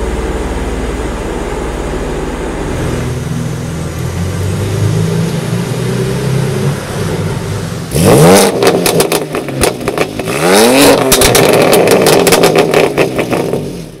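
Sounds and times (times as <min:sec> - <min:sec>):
car engine revving: 0:00.0 - 0:14.0
exhaust crackling and popping: 0:00.0 - 0:14.0.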